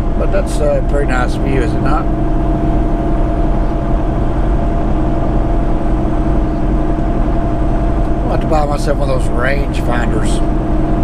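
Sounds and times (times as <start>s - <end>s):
diesel truck engine drone: 0.0s - 11.0s
road noise: 0.0s - 11.0s.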